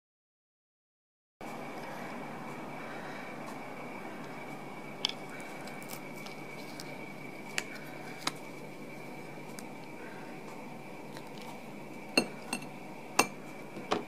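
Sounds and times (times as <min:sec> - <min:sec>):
faint high whine: 0:01.4 - 0:14.0.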